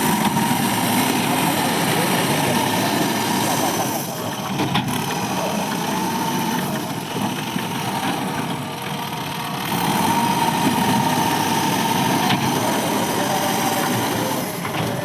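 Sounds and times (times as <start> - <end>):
backhoe diesel engine running: 0.0 - 15.0.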